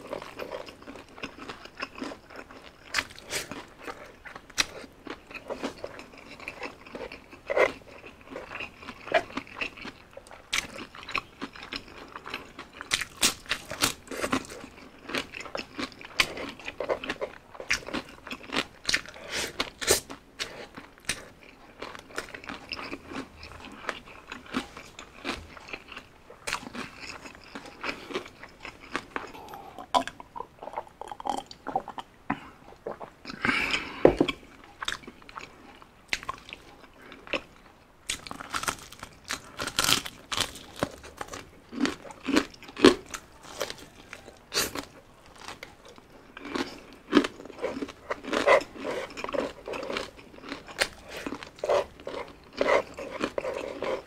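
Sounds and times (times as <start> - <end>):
crunchy chewing of fried chicken: 0.0 - 54.0.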